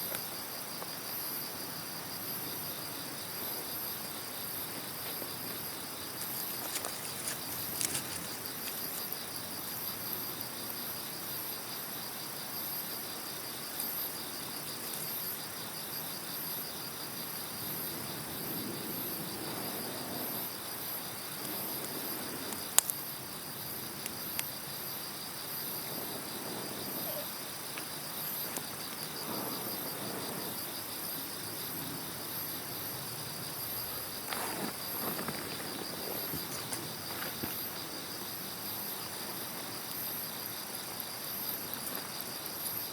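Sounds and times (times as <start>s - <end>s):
insects chirping: 0.0s - 42.9s
bonfire wood burning and popping: 2.4s - 42.9s.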